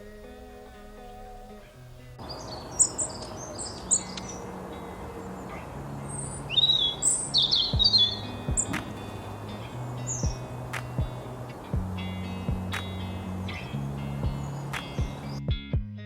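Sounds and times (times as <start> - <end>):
steady background hiss: 0.0 - 15.4
sparrows chirping: 2.2 - 15.4.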